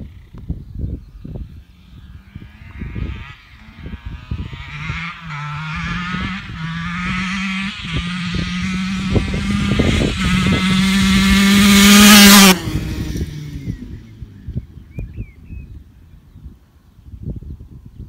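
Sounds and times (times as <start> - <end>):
dirt bike engine approaching: 0.0 - 18.0.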